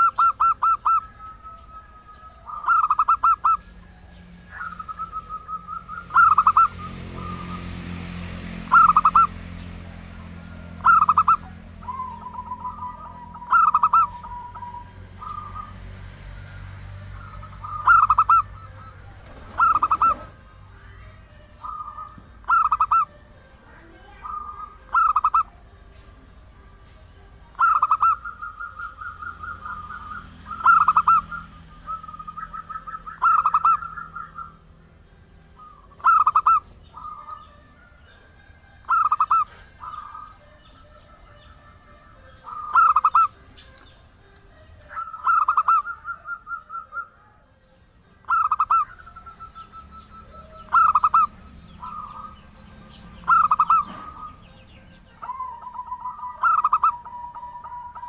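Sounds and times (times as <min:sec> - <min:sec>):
dove cooing: 0:00.0 - 0:07.8, 0:08.6 - 0:15.9, 0:17.0 - 0:25.7, 0:27.5 - 0:34.6, 0:35.5 - 0:43.4, 0:44.8 - 0:47.6, 0:48.2 - 0:52.4, 0:53.2 - 0:54.6, 0:55.2 - 0:58.0.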